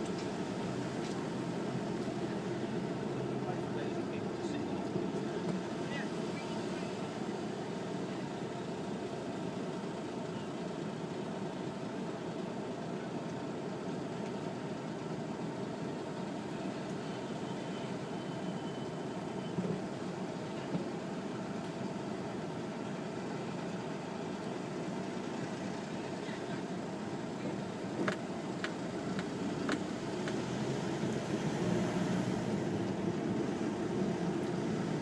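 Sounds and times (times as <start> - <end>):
road train engine running: 0.0 - 35.0.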